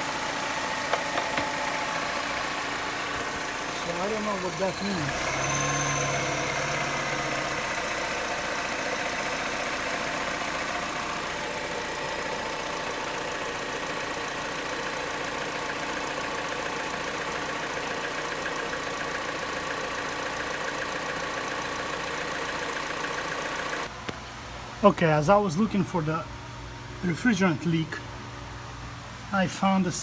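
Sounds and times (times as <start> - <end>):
car engine idling: 0.0 - 24.4.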